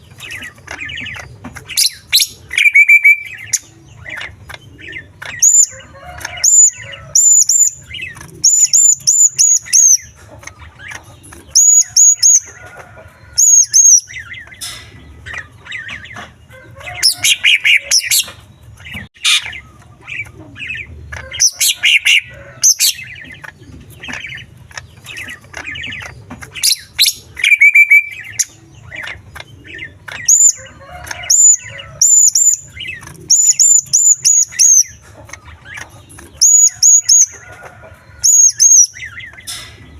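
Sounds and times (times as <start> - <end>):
bird singing with mimicry: 0.0 - 12.6, 13.4 - 14.6, 17.0 - 37.4, 38.2 - 39.8.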